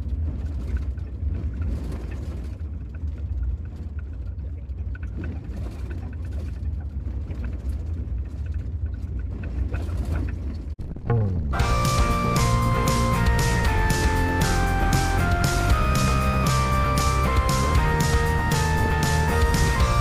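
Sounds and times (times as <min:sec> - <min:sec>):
van engine and road noise: 0:00.0 - 0:20.0.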